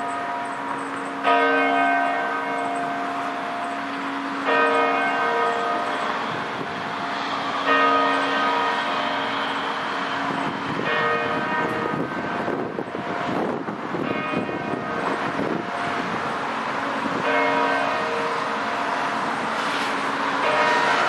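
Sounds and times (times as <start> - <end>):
church bells ringing: 0.0 - 21.0
car passing: 2.9 - 21.0.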